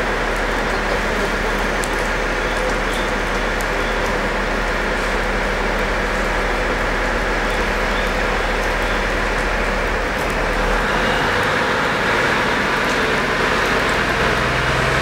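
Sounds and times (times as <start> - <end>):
diesel railcar engine running: 0.0 - 15.0.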